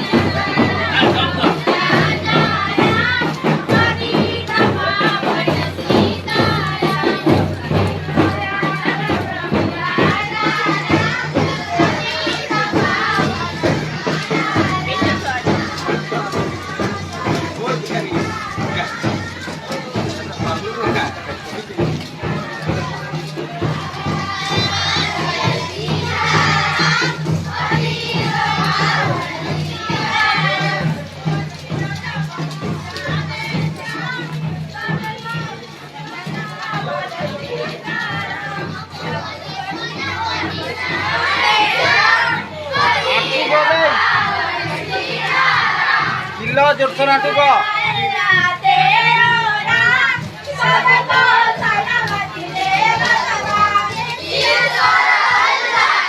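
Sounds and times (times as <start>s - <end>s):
crowd of children's voices: 0.0s - 56.0s
singing over rhythmic beat: 0.0s - 56.0s.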